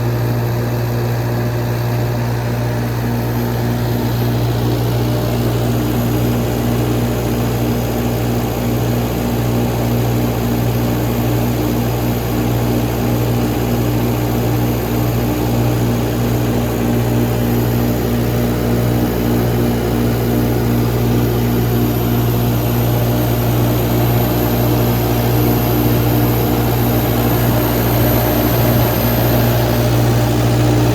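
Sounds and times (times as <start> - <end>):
diesel generator drone: 0.0 - 30.9.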